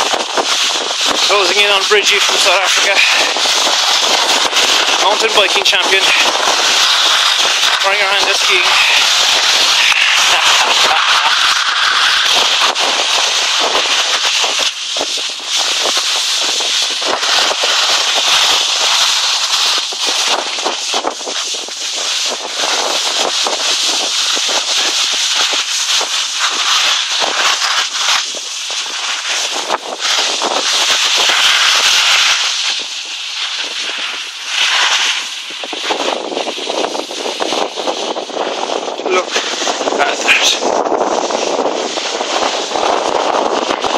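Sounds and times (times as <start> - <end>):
skis scraping over hard snow: 0.0 - 43.9.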